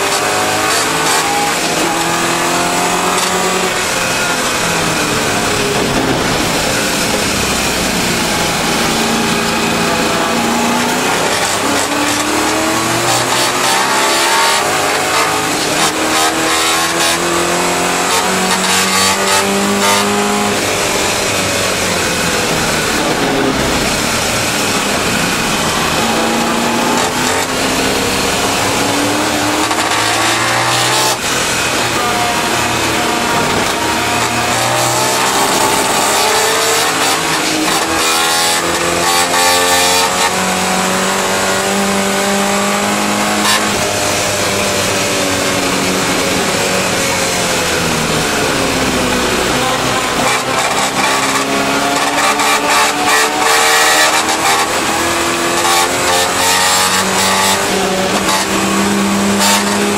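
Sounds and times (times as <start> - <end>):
race car engine revving: 0.0 - 59.9
wind and road noise: 0.0 - 59.9.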